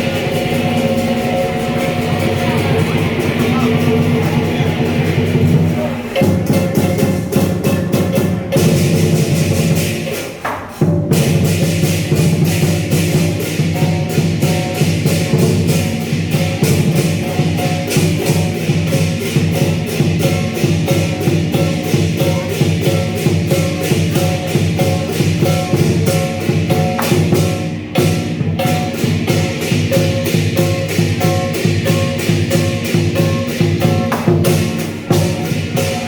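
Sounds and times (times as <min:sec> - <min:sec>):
lion dance percussion: 0:00.0 - 0:36.0.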